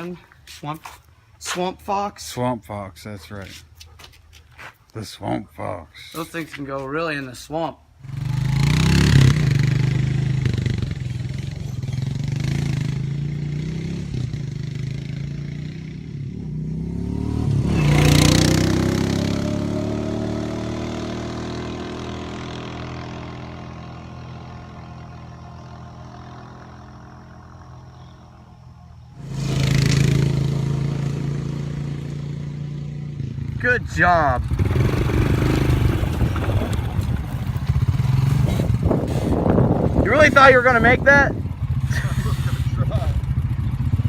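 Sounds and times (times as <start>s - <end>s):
atv engine revving: 8.0s - 44.0s.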